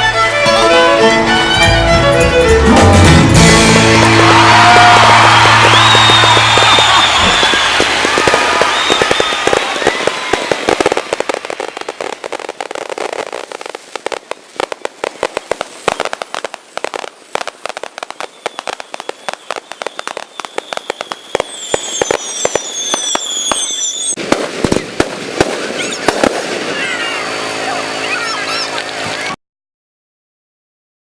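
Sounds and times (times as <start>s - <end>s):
fireworks crackling: 3.3s - 29.4s
whistling fireworks: 3.5s - 29.4s.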